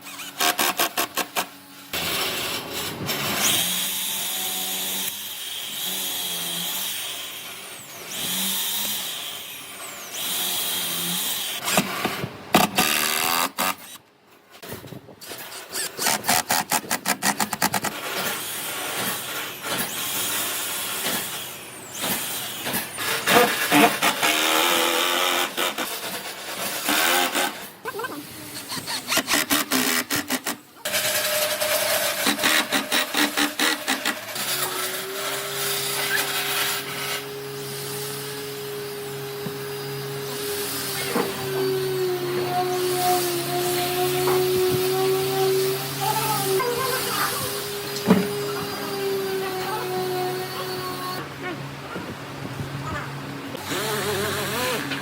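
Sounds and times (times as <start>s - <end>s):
power tool whining: 0.0s - 14.0s, 14.6s - 55.0s.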